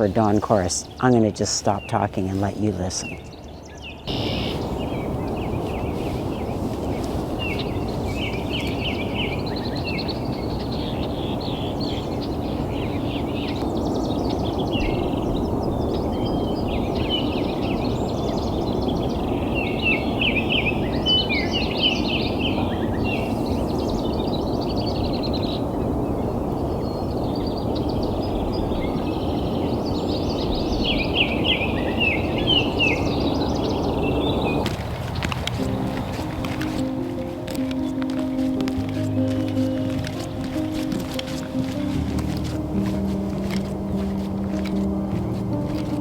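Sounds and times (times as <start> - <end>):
songbirds singing and chirping: 0.0 - 46.0.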